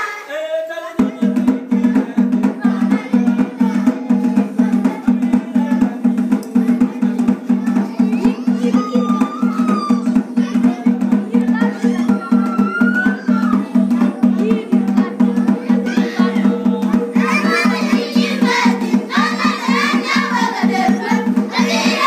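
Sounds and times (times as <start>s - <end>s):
children singing faintly: 0.0s - 22.0s
drum beaten in steady rhythm: 1.0s - 22.0s.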